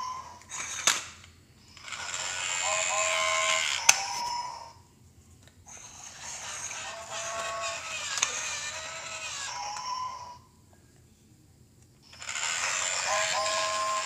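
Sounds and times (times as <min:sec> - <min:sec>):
toy train motor whir: 0:00.0 - 0:04.7, 0:05.7 - 0:10.4, 0:12.0 - 0:14.0.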